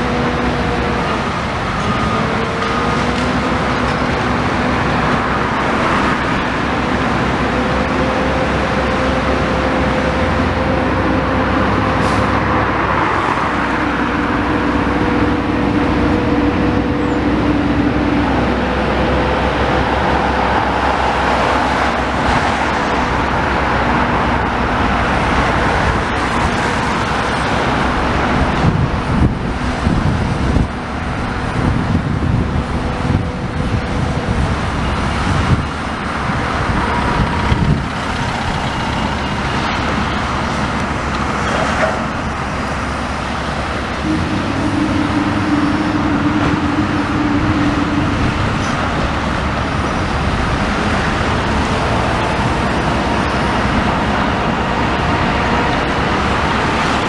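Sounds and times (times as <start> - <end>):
excavator engine hum: 0.0 - 57.0
road traffic: 0.0 - 57.0.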